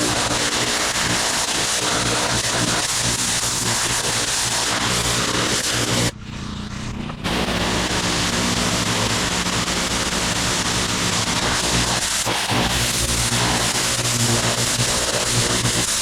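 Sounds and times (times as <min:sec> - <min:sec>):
pressure washer spray hissing: 0:00.0 - 0:06.1, 0:07.3 - 0:16.0
pressure washer engine running: 0:00.0 - 0:16.0.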